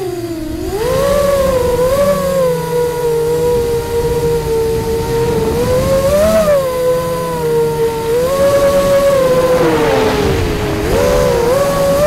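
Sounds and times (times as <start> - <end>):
drone motors and propellers whining: 0.0 - 12.0.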